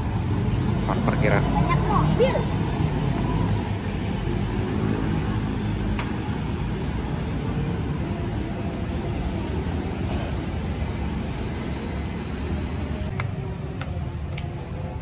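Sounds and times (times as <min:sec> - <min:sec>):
motor traffic rumble: 0:00.0 - 0:15.0.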